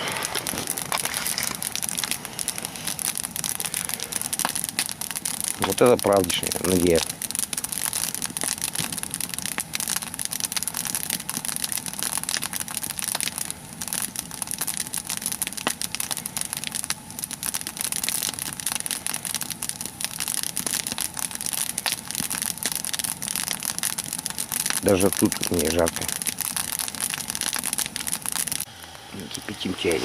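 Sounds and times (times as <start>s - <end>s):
log fire crackling and popping: 0.0s - 30.0s.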